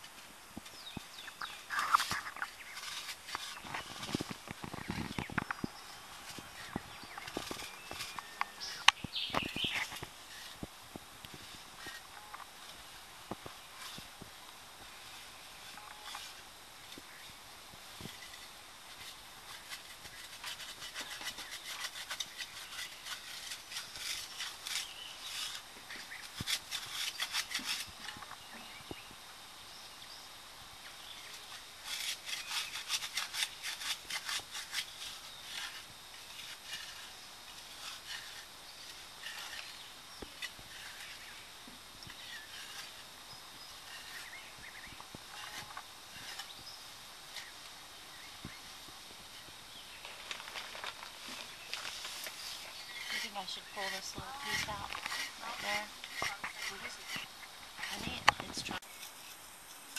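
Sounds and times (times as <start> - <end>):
hand tools scraping soil: 0.0 - 29.2, 30.9 - 59.9.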